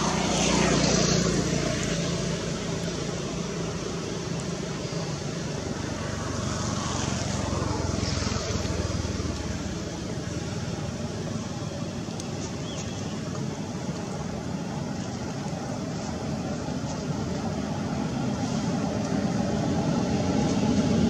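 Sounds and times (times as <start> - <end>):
low outdoor background rumble: 0.0 - 21.0.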